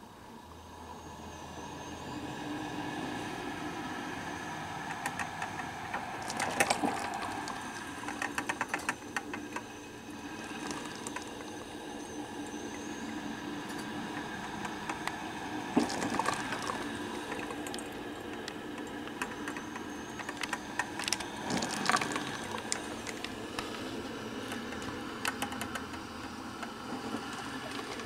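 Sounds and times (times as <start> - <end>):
coffee maker hissing and popping: 4.8 - 28.0.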